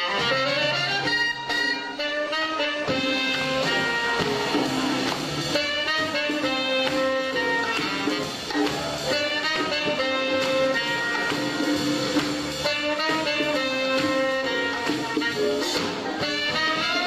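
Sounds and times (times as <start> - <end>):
horn holding long notes: 0.0 - 11.9, 12.6 - 17.0
drum kit with ride cymbals: 0.0 - 17.0.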